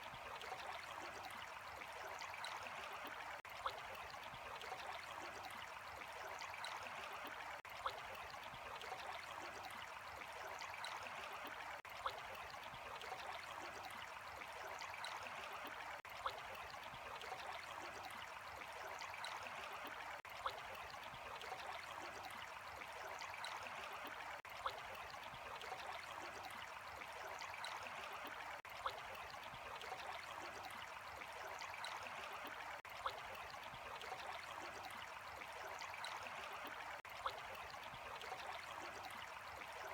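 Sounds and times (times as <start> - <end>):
water trickling and gurgling: 0.0 - 39.9.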